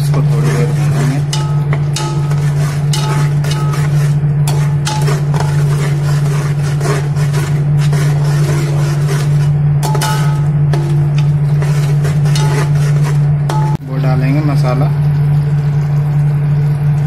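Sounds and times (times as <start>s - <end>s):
steady low hum: 0.0s - 17.0s
spoon scraping a pan: 0.1s - 13.8s.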